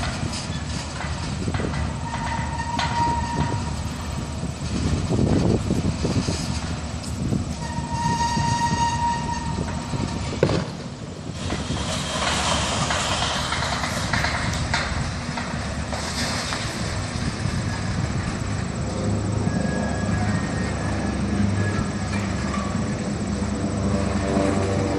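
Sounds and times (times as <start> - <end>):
heavy machinery rumbling: 0.0 - 24.9.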